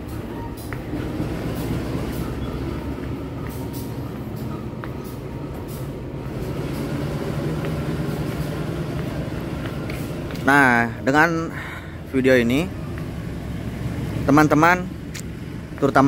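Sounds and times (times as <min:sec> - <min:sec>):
train coaches rumbling past: 0:00.0 - 0:16.0.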